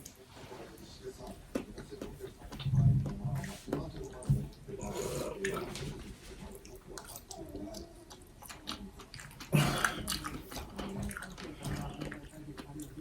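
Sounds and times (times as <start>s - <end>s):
people chewing juicy fruit: 0.0s - 13.0s.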